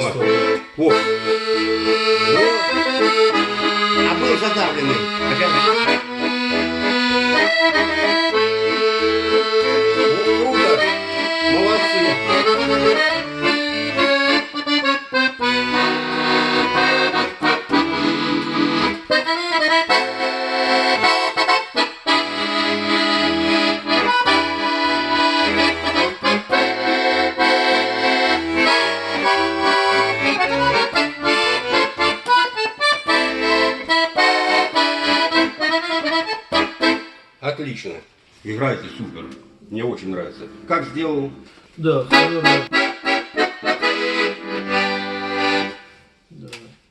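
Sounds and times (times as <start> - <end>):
button accordion playing: 0.0 - 37.4, 38.6 - 46.2.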